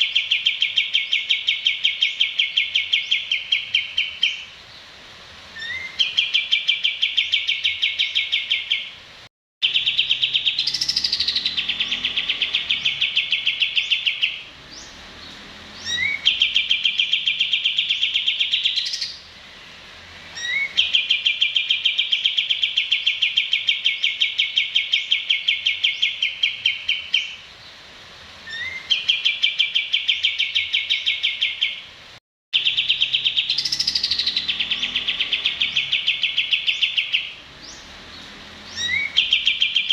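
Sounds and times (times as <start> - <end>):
songbird trilling: 0.0 - 4.8, 5.6 - 9.0, 9.6 - 27.8, 28.4 - 31.9, 32.6 - 39.9.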